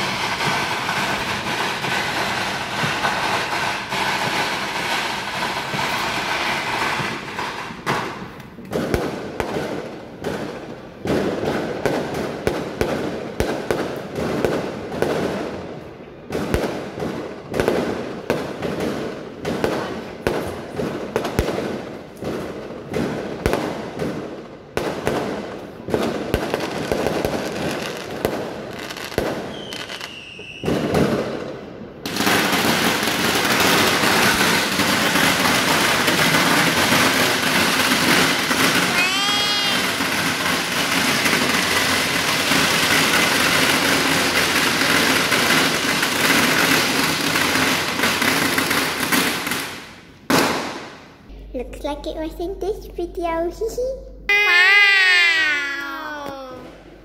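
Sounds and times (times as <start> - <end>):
fireworks bangs and cracks: 0.0 - 53.0, 54.3 - 57.0
continuous fireworks crackle: 0.0 - 53.1, 54.6 - 57.0.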